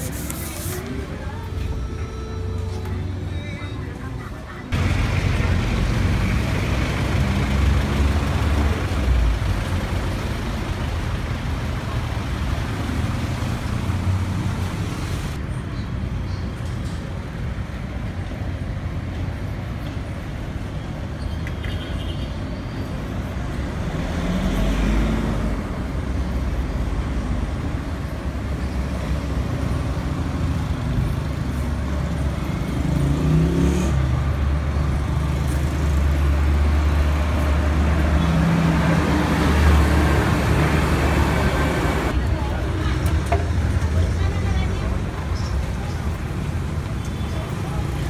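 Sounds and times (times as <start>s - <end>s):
road traffic: 0.0s - 48.0s.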